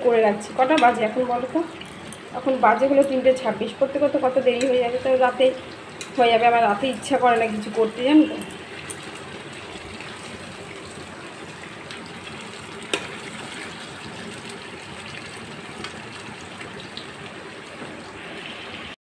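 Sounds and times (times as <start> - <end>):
chicken sizzling in oil: 0.1 - 19.0.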